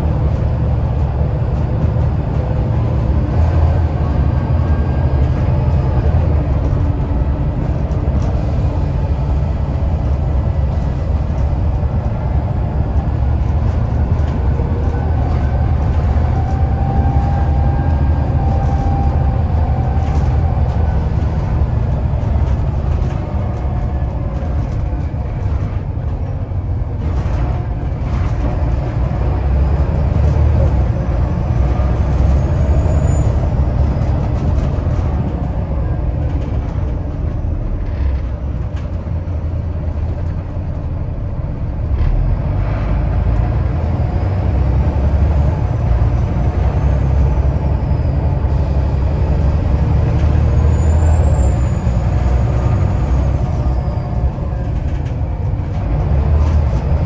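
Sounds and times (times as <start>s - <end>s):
bus diesel engine under load: 0.0s - 57.0s.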